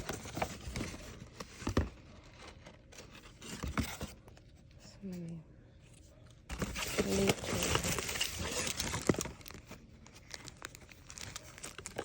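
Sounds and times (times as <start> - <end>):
packaging crinkling and rustling: 0.0 - 4.5, 6.5 - 12.0.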